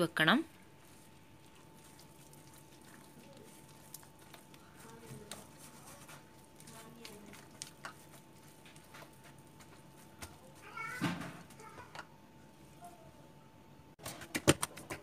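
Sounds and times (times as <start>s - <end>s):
batter squelching by hand: 0.3s - 13.1s.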